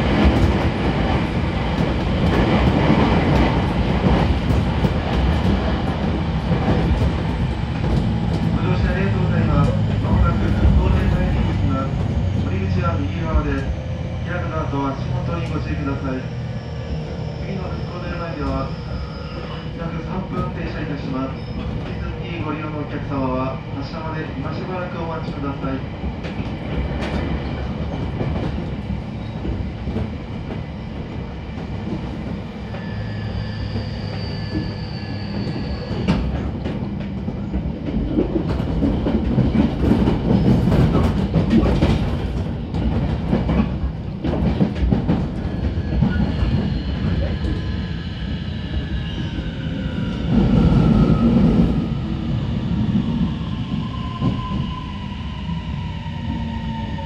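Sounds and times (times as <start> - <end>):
train wheel and rail rumble: 0.0 - 57.0.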